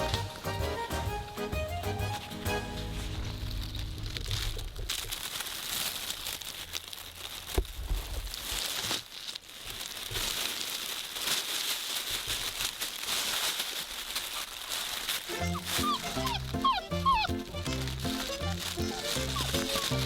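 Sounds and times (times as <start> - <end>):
rustling and crinkling: 0.0 - 20.0.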